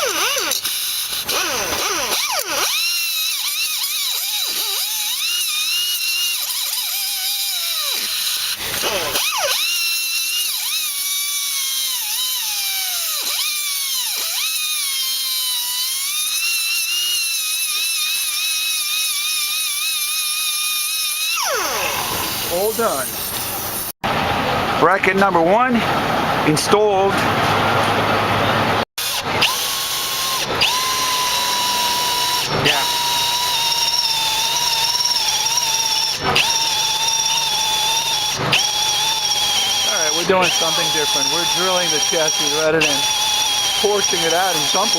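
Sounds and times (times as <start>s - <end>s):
electric cutter cutting screw: 0.0s - 24.0s, 29.0s - 44.9s
electric drill boring through steel: 0.0s - 24.0s, 29.0s - 44.9s.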